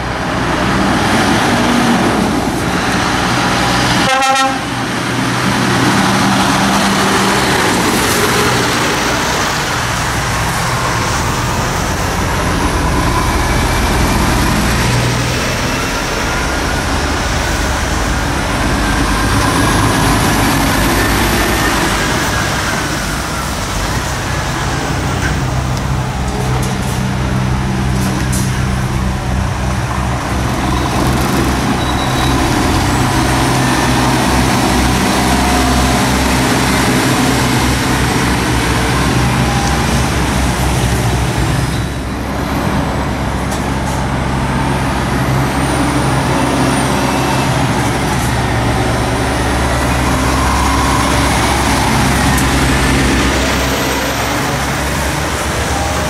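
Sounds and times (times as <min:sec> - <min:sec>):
lorry diesel engines: 0:00.0 - 0:56.0
traffic and tyre noise: 0:00.0 - 0:56.0.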